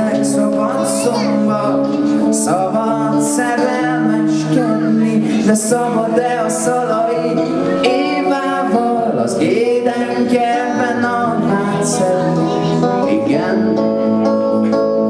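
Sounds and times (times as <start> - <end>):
guitar accompaniment: 0.0 - 15.0
man singing into a microphone: 0.0 - 15.0.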